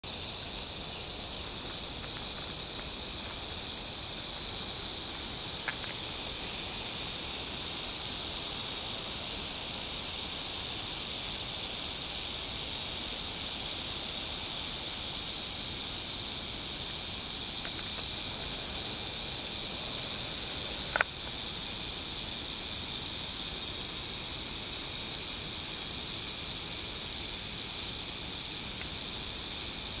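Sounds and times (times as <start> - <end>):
rattlesnake rattling: 0.0 - 30.0.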